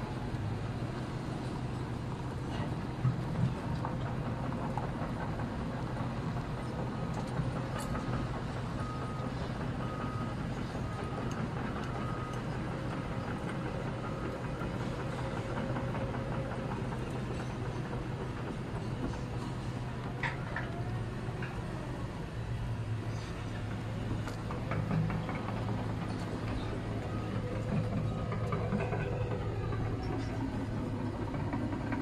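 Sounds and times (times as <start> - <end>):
constant rumble: 0.0 - 32.0.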